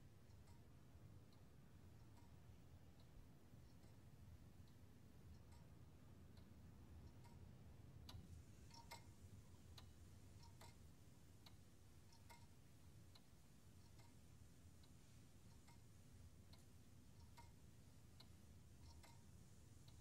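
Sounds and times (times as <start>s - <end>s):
low room hum: 0.0s - 20.0s
clock ticking: 1.3s - 9.1s, 9.7s - 14.2s, 14.8s - 15.9s, 16.5s - 20.0s.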